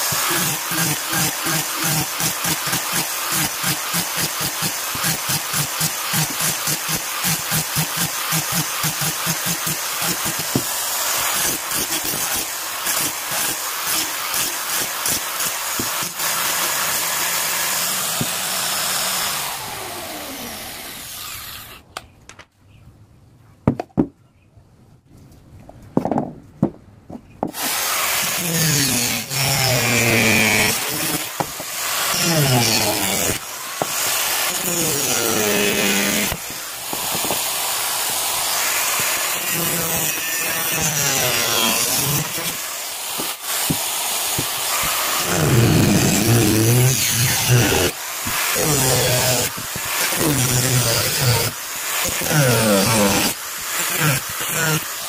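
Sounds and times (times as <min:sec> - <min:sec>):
angle grinder cutting shell: 0:00.0 - 0:21.9, 0:27.5 - 0:55.0.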